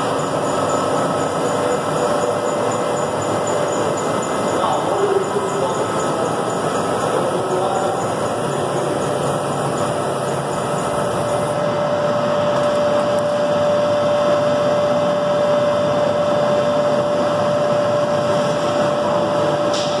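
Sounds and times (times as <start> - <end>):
milling machine running with whine: 0.0 - 20.0.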